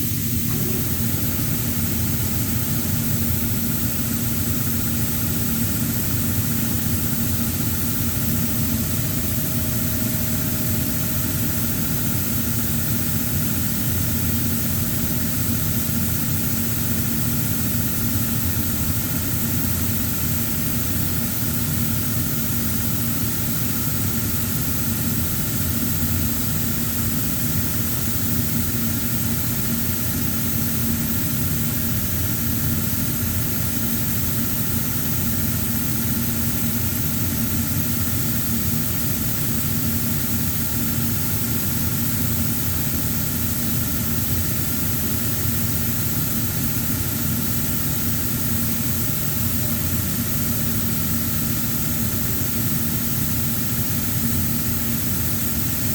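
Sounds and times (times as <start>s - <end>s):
machine humming with hiss: 0.0s - 55.9s.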